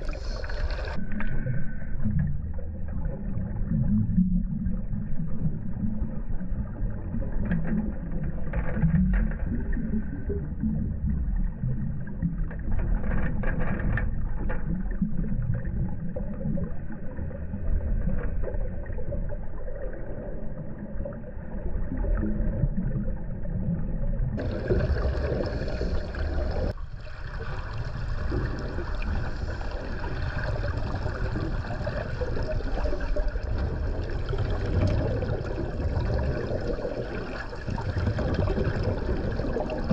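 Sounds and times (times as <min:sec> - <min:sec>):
low underwater rumble: 0:00.0 - 0:39.9
water bubbling: 0:00.0 - 0:39.9.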